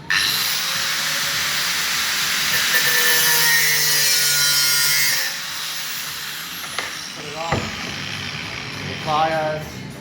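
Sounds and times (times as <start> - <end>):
cut-off wheel grinding metal rod: 0.1 - 9.3.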